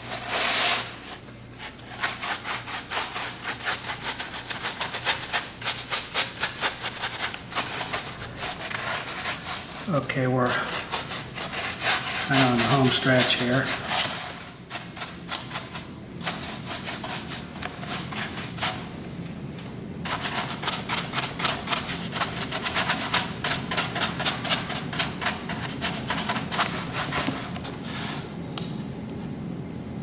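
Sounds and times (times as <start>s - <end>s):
paintbrush scrubbing: 0.0s - 18.9s, 20.1s - 28.2s.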